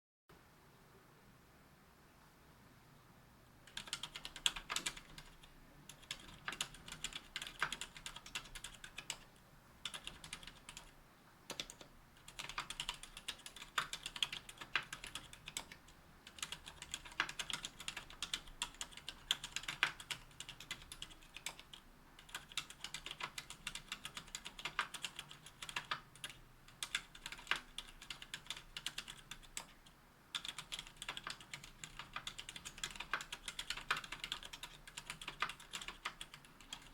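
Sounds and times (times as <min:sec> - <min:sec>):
typing on keyboard: 0:03.7 - 0:10.9, 0:11.5 - 0:36.9.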